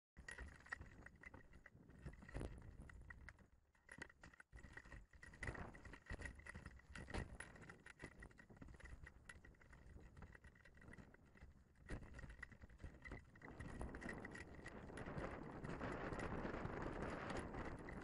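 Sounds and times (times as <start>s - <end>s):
wind rumble on microphone: 0.2s - 3.5s, 4.6s - 18.0s
hang glider frame rustling: 0.2s - 18.0s
small clicks and knocks: 0.2s - 18.0s.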